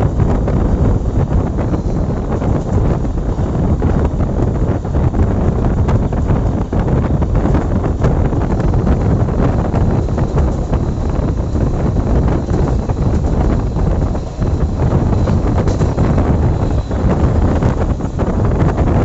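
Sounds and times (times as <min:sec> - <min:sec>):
passenger train rumbling: 0:00.0 - 0:19.0
wind buffeting microphone: 0:00.0 - 0:19.0.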